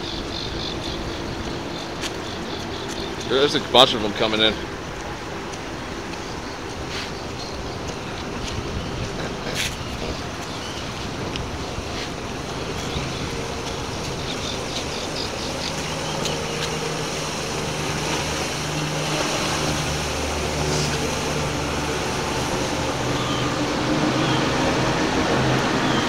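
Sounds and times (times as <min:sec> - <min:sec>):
choppy water: 0:00.0 - 0:26.0
motorboat engine droning: 0:00.0 - 0:26.0
wind: 0:00.0 - 0:26.0.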